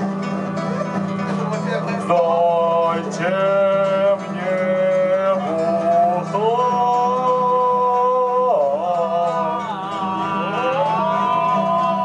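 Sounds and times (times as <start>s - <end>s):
instrumental accompaniment: 0.0s - 12.0s
man singing a long note: 2.0s - 12.0s.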